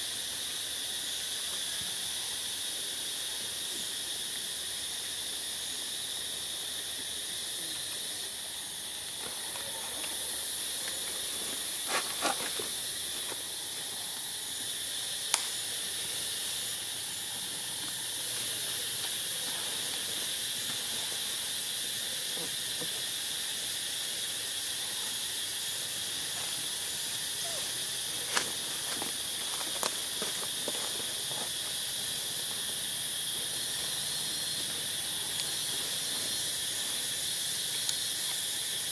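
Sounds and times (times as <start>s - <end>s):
insect chorus drone: 0.0s - 38.9s.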